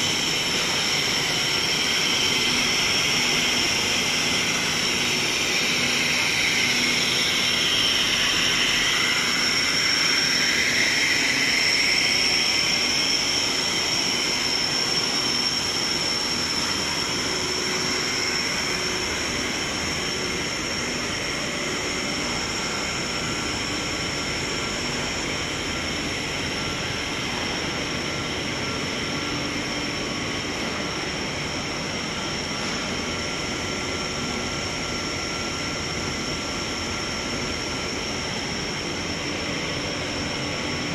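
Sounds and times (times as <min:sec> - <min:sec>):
high-pitched machine whine: 0:00.0 - 0:40.9.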